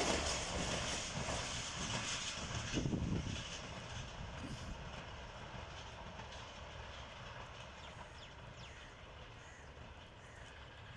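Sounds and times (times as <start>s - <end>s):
passenger train rumble: 0.0s - 10.9s.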